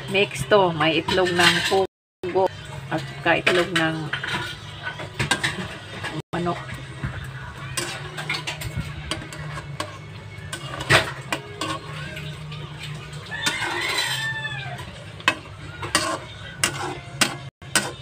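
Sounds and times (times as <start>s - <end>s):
metal spatula scraping a wok: 0.0s - 1.9s, 2.6s - 6.7s, 7.3s - 18.0s.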